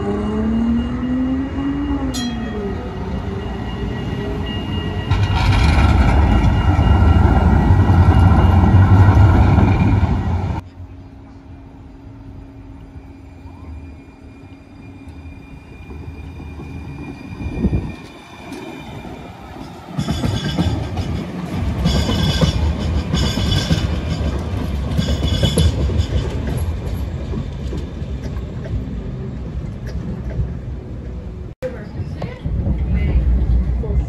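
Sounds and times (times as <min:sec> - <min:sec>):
tram wheels rumbling on rail: 0:00.0 - 0:34.0.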